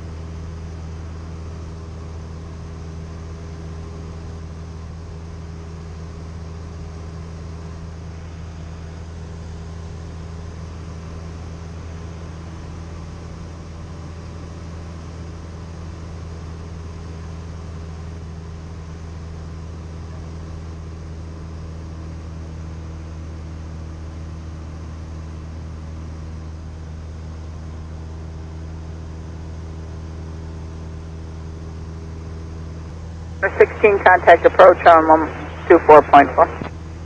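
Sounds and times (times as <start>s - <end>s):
airplane engine droning in cockpit: 0.0s - 37.0s.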